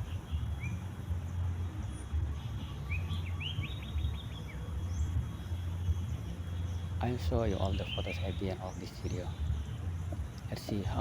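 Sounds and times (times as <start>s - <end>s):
songbird chirping and trilling: 0.0s - 11.0s
steady low rumble: 0.0s - 11.0s.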